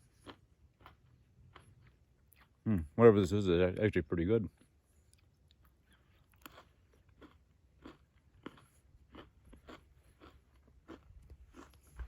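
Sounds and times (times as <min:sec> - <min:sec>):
person chewing with crunches: 0:00.0 - 0:03.0, 0:04.5 - 0:12.0.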